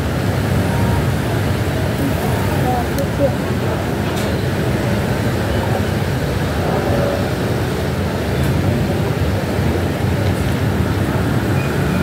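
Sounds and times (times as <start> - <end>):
cars passing rumble: 0.0 - 12.0.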